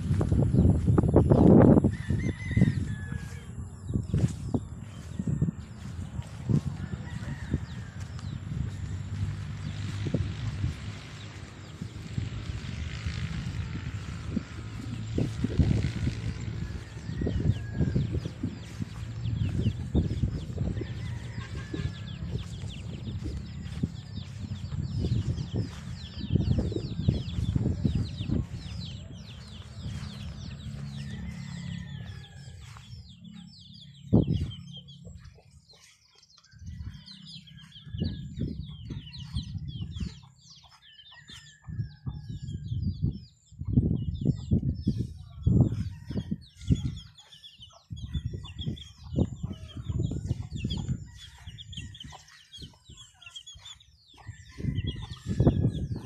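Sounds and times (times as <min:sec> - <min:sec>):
chickens clucking: 0:00.0 - 0:56.0
low rumble on microphone: 0:00.0 - 0:56.0.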